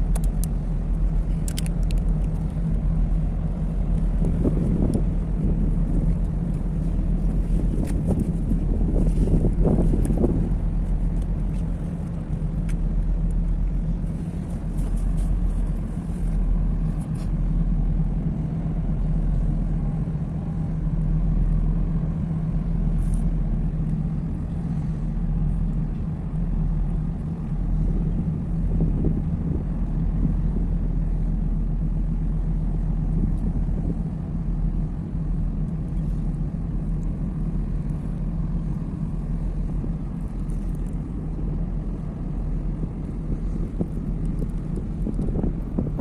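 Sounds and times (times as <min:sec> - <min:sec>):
ship engine drone: 0:00.0 - 0:46.0.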